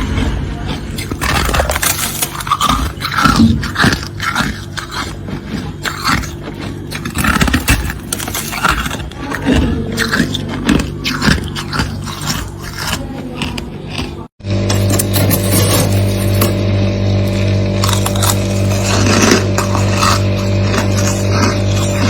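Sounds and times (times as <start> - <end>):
freezer frost being scraped: 0.0 - 16.6, 17.3 - 22.0.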